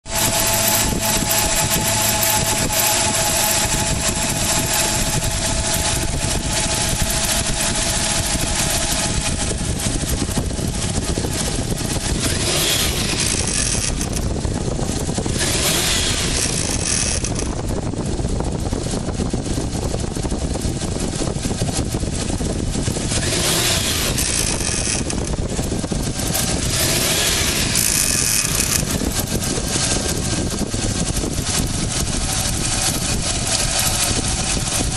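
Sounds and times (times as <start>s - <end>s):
loud mechanical engine noise: 0.0s - 34.9s.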